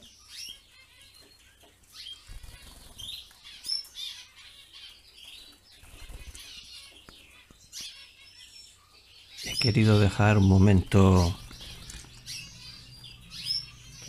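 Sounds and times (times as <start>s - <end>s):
high bird chirps: 0.0s - 14.0s.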